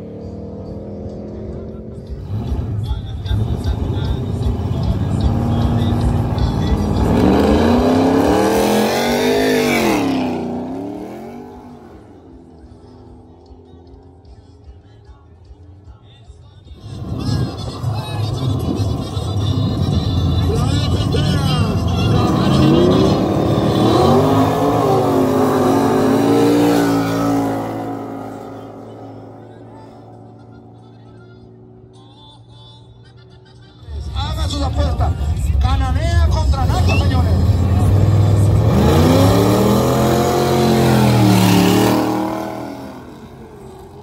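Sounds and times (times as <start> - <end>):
racing car engine at full throttle: 0.0 - 15.7, 16.7 - 32.6, 33.2 - 44.0.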